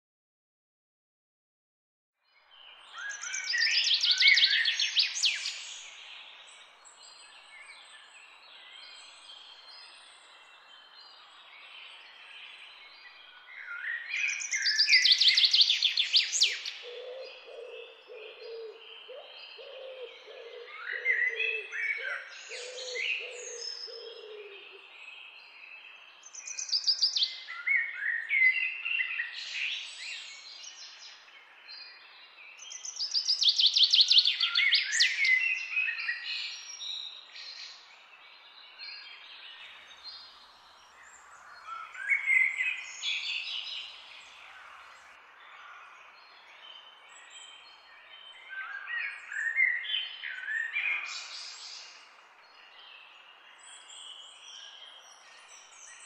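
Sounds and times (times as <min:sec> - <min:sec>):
birds singing and chirping: 0:02.3 - 0:56.0.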